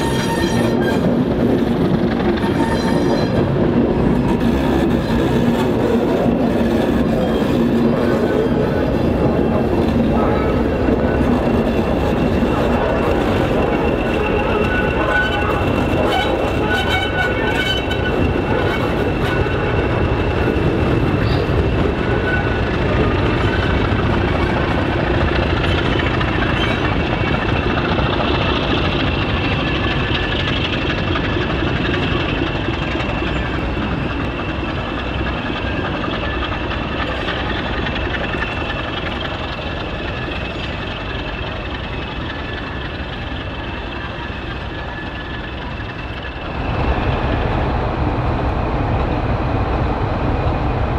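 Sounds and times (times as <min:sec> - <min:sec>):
wheels clicking over rail joints: 0:00.0 - 0:46.8
diesel locomotive engine whistling: 0:00.0 - 0:50.9.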